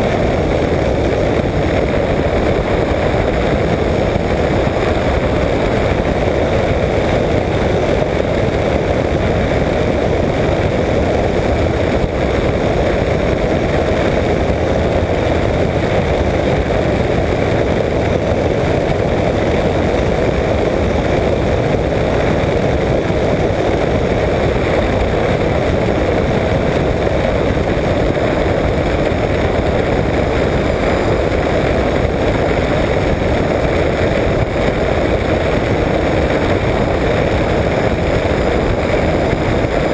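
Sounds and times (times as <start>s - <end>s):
aircraft engine and propeller drone: 0.0s - 39.9s
airflow rushing over camera: 0.0s - 39.9s.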